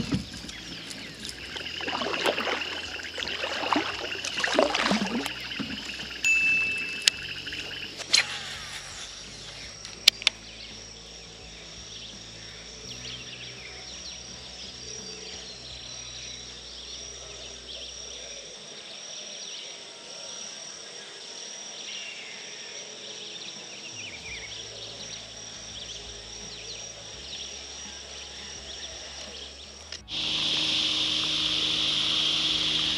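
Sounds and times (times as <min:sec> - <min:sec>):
insect chirps: 0:00.0 - 0:32.9
insect drone: 0:00.0 - 0:32.9.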